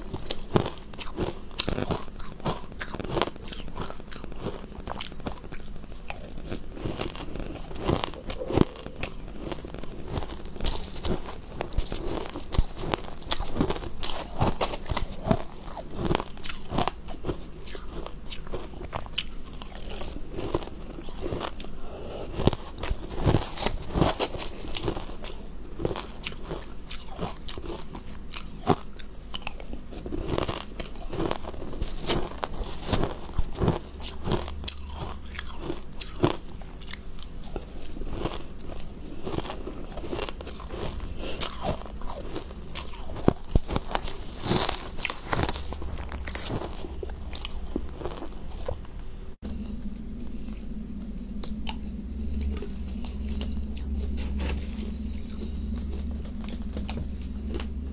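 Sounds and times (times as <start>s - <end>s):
crunching and chewing ice: 0.0s - 57.9s.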